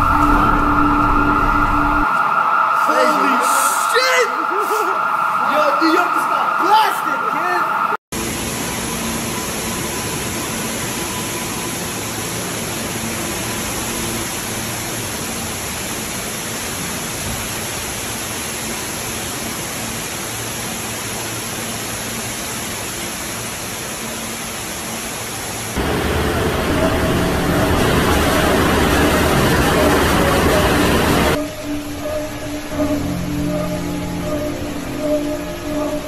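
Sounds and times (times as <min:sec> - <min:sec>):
floodwater rushing: 0:00.0 - 0:36.0.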